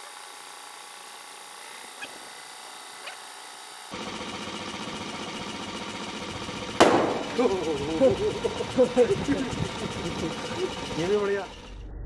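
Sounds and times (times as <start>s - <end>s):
air compressor running: 0.0s - 11.8s.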